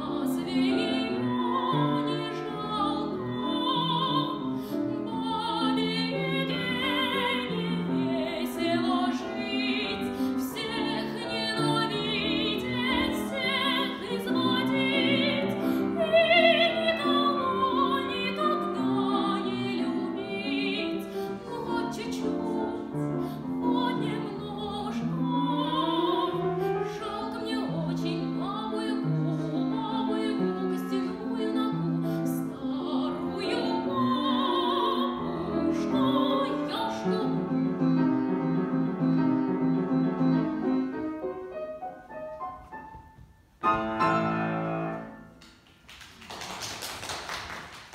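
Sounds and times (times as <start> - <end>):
grand piano: 0.0 - 47.9.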